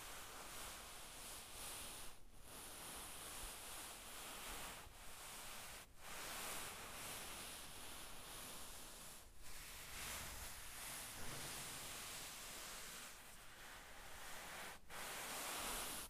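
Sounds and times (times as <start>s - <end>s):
hand rubbing cloth: 0.0s - 16.0s.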